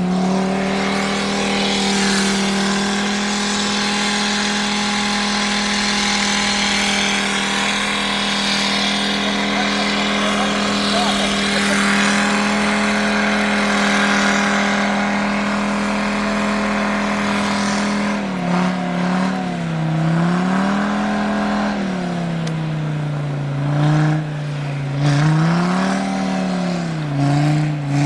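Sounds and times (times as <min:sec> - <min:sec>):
wheels spinning in snow: 0:00.0 - 0:22.5
engine revving hard: 0:00.0 - 0:28.0.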